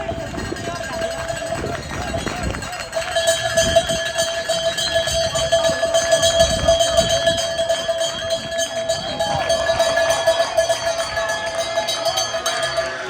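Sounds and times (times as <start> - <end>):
cowbells ringing: 0.0 - 13.0.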